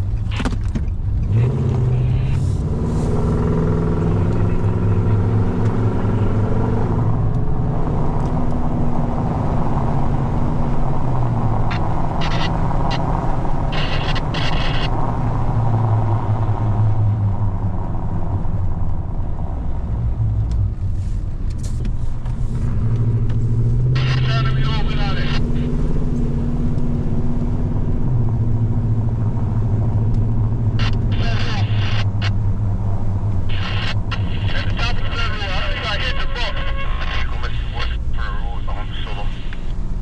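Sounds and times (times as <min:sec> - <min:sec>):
engine and tyre drone: 0:00.0 - 0:40.0.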